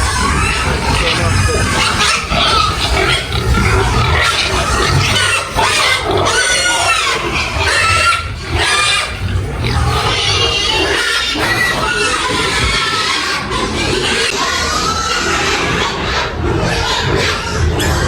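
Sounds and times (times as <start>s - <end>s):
pigs squealing: 0.0s - 18.0s.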